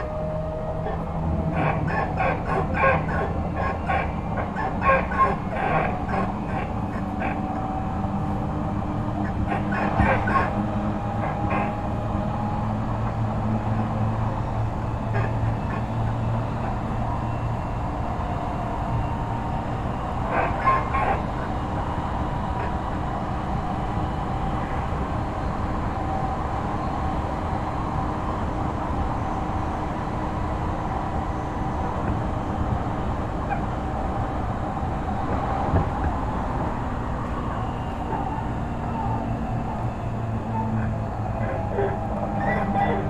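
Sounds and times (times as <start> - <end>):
faint running gear whine: 0.0 - 43.0
wheel on rail rumble: 0.0 - 43.0.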